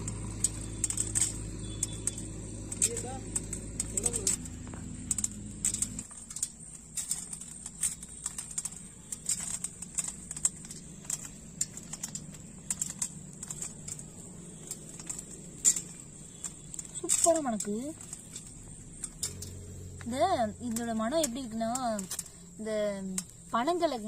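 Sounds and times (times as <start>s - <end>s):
grains pattering on steel plate: 0.0s - 24.0s.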